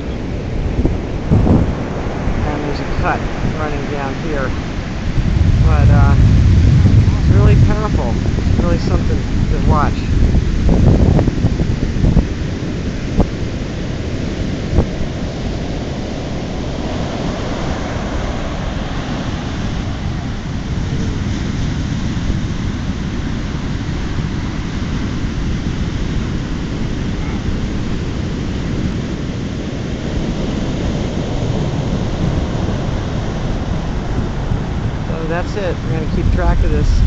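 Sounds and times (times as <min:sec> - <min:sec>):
heavy surf breaking: 0:00.0 - 0:37.0
wind rumble on microphone: 0:00.0 - 0:37.0.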